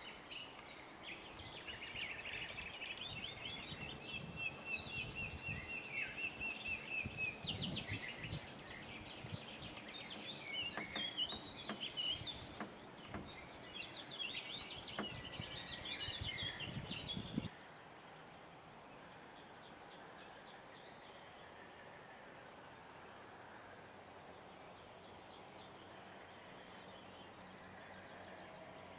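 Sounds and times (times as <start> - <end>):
faint steady background noise: 0.0 - 28.9
songbirds singing and calling: 0.0 - 28.9.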